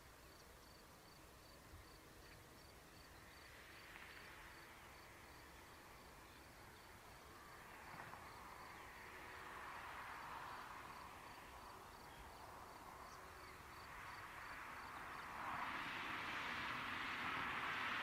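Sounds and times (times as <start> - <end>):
cricket chirping: 0.2 - 15.8
distant jet engine hiss: 0.9 - 18.0.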